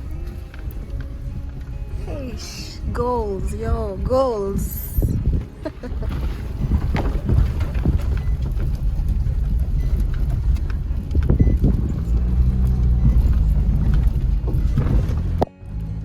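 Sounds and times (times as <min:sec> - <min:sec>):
car engine and road rumble: 0:00.0 - 0:16.0
engine hum: 0:00.0 - 0:16.0.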